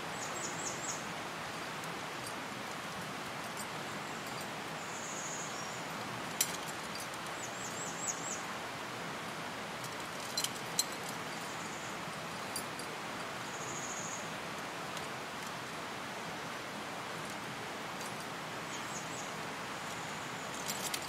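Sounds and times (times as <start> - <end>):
outdoor hiss: 0.0 - 21.0.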